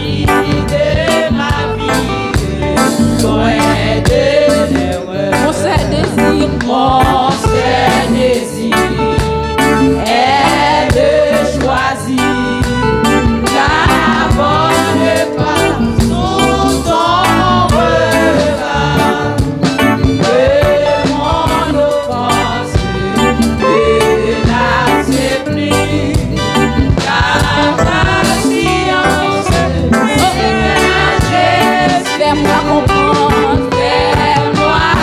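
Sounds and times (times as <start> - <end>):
women singing a hymn: 0.0 - 2.3, 2.9 - 9.2, 10.0 - 12.7, 13.4 - 19.6, 20.2 - 35.0
band accompaniment with steady beat: 0.0 - 35.0.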